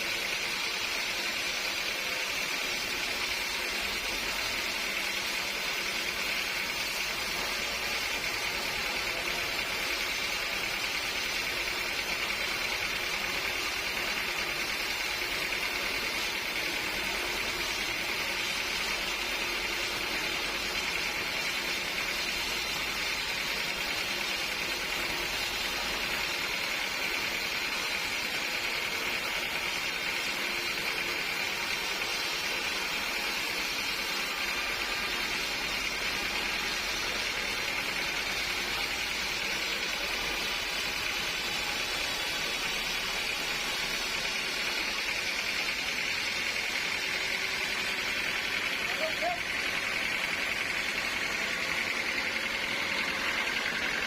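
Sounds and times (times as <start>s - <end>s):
sawmill machinery hiss and hum: 0.0s - 54.0s.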